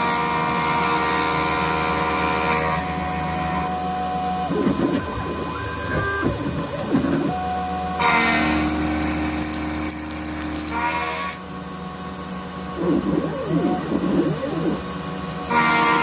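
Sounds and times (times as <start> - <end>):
milling machine whine: 0.0 - 16.0
stepper feed whir: 0.0 - 16.0.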